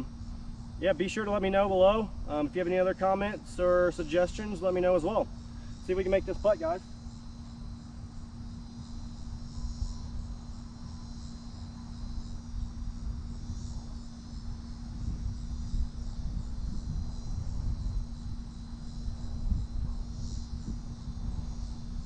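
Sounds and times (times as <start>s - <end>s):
faint steady hum: 0.0s - 22.0s
insects chirring: 0.0s - 22.0s.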